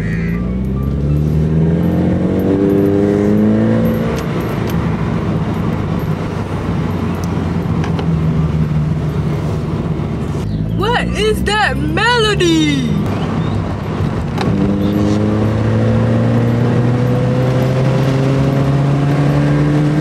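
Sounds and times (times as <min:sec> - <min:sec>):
car engine through exhaust: 0:00.0 - 0:20.0.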